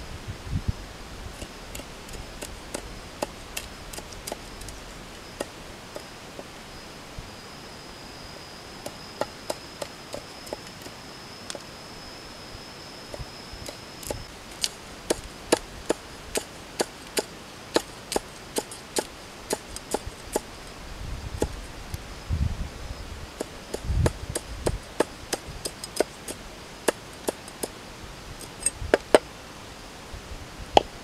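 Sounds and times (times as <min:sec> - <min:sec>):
thin high steady tone: 0:01.3 - 0:30.0.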